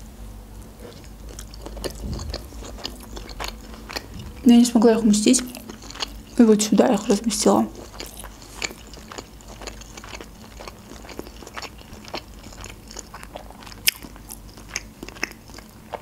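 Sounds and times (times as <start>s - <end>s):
wet chewing clicks and smacks: 0.8s - 16.0s.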